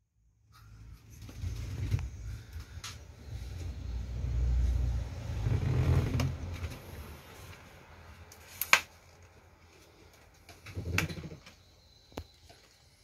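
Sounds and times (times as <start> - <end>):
road traffic rumble: 0.7 - 11.6.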